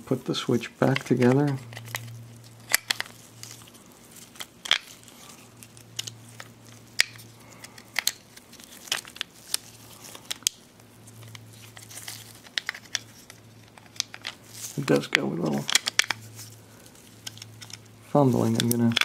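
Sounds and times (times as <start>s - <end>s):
faint low hum: 0.0s - 19.0s
gloves crinkling: 0.3s - 19.0s.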